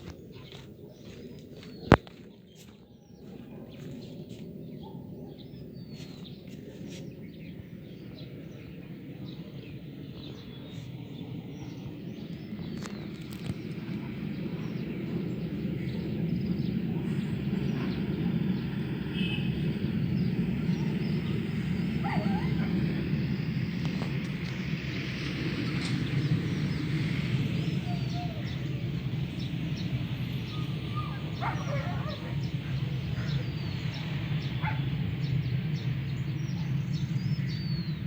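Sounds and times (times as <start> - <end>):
birds chirping: 0.0 - 38.0
low rumble from sky: 0.0 - 38.0.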